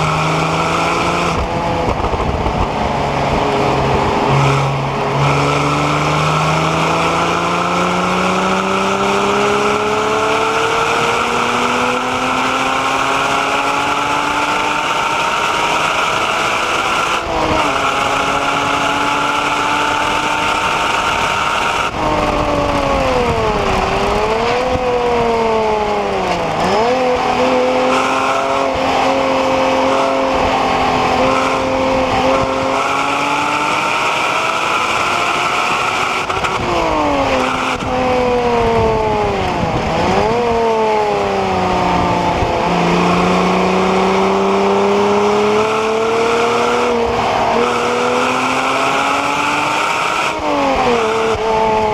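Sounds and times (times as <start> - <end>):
sports car engine accelerating: 0.0 - 51.9.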